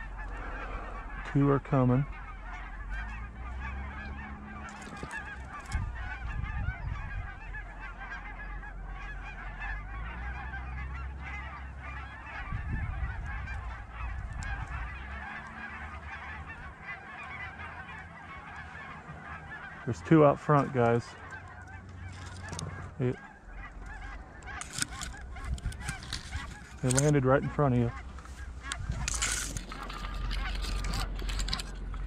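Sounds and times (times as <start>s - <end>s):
low rumble: 0.0s - 20.6s, 21.2s - 32.0s
geese honking: 0.0s - 32.0s.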